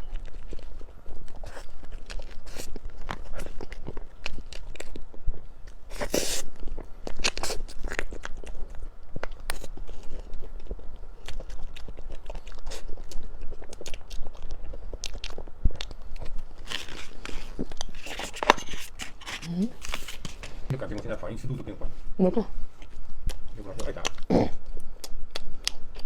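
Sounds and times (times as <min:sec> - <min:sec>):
crunchy food chewing: 0:00.0 - 0:21.9, 0:22.7 - 0:26.0.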